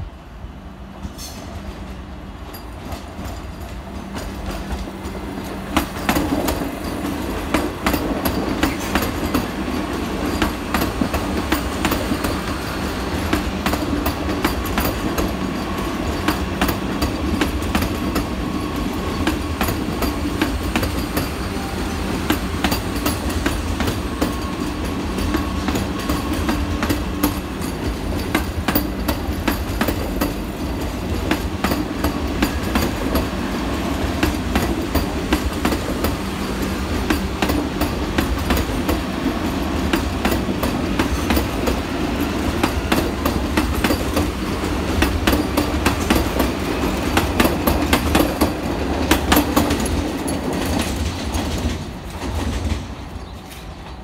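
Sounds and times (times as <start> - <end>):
train rumble: 0.0 - 54.0
train wheels clicking over rail joints: 1.0 - 54.0.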